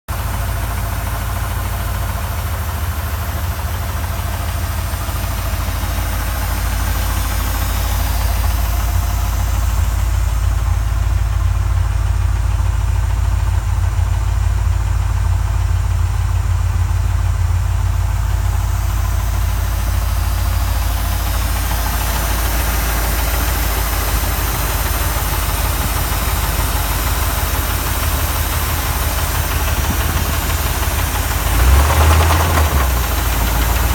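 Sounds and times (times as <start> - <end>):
car engine idling: 0.1 - 33.9
engine knocking: 0.1 - 33.9.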